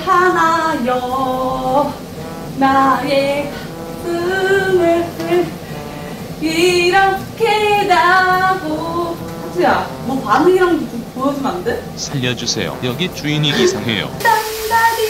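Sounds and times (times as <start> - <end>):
woman singing wordless tune: 0.0 - 12.0, 13.5 - 15.0.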